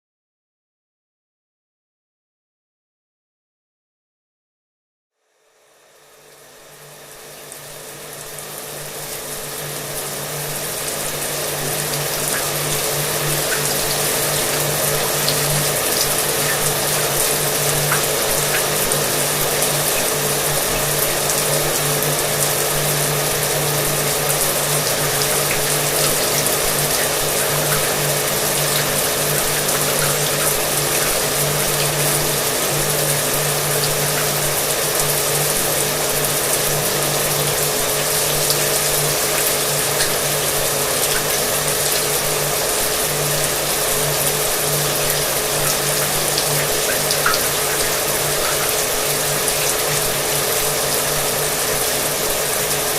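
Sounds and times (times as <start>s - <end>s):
shower water running: 5.4s - 52.9s
hair dryer motor humming: 6.2s - 52.9s.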